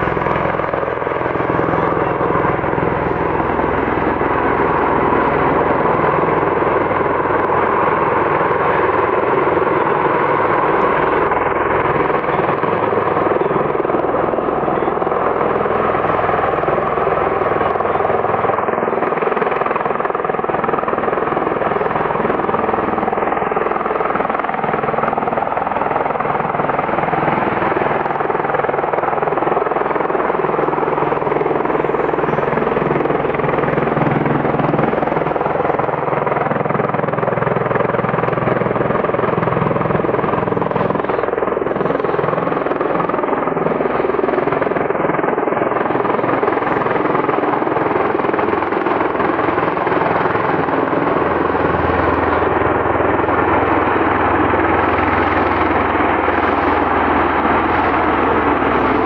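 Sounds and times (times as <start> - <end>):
tiltrotor aircraft rotor noise: 0.0 - 59.0.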